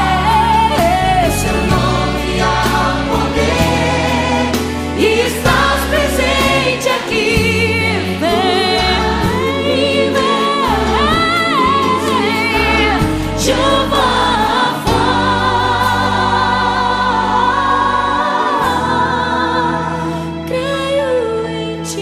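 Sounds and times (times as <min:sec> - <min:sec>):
woman singing lead vocal: 0:00.0 - 0:03.8, 0:05.0 - 0:22.0
band with steady bass: 0:00.0 - 0:20.6
backing choir singing: 0:00.0 - 0:22.0.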